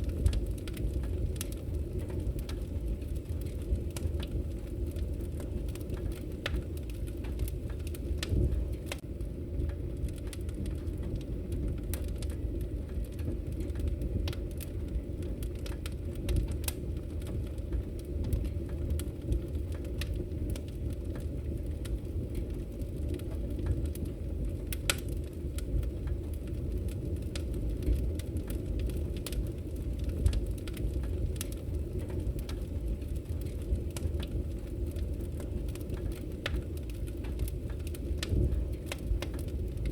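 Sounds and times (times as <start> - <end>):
fire rumble: 0.0 - 39.9
wood fire popping and snapping: 0.0 - 39.9.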